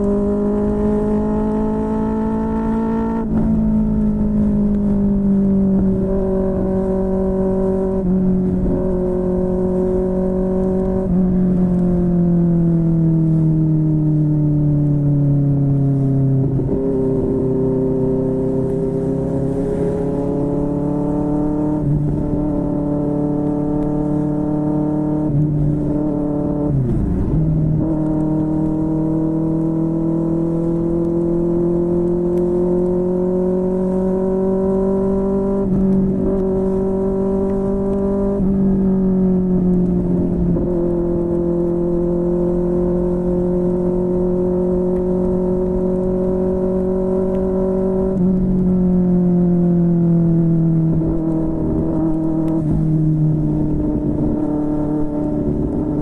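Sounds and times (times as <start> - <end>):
motorcycle engine revving: 0.0 - 13.6, 16.0 - 56.0.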